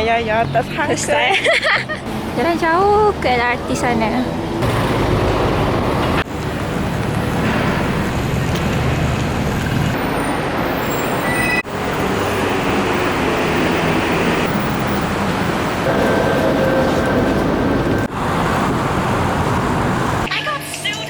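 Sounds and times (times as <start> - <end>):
passing cars and buses: 0.0 - 21.0.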